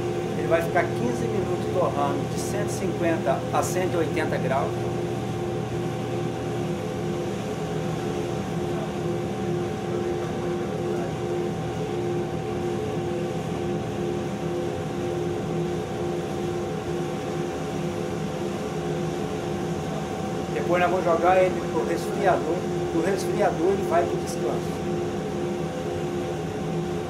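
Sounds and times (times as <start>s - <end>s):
coffee roaster motor hum: 0.0s - 27.0s.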